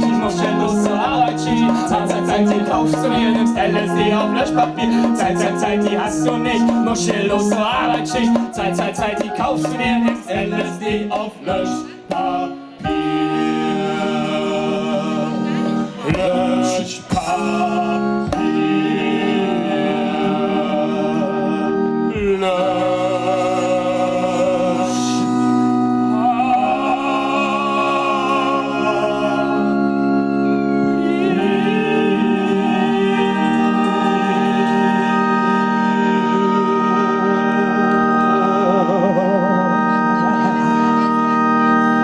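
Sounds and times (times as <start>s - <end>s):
electric keyboard organ chords: 0.0s - 42.0s
live band music: 0.0s - 42.0s.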